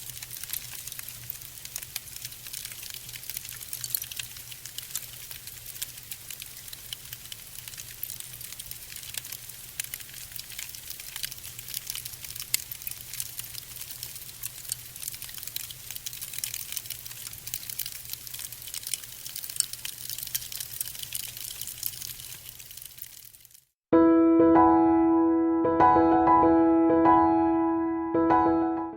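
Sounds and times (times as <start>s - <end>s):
fire crackling: 0.0s - 23.8s.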